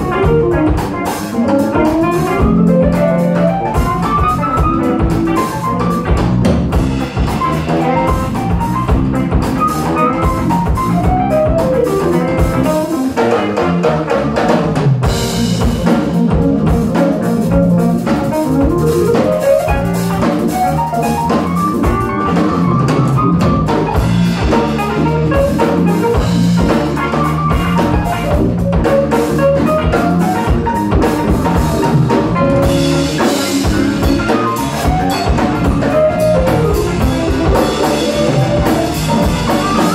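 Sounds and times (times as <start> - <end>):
live funk band playing: 0.0 - 39.9.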